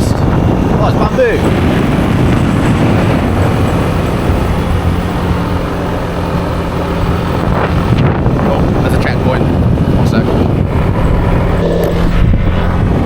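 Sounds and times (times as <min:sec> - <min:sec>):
motorbike engine running: 0:00.0 - 0:13.0
wind noise on microphone: 0:00.0 - 0:13.0.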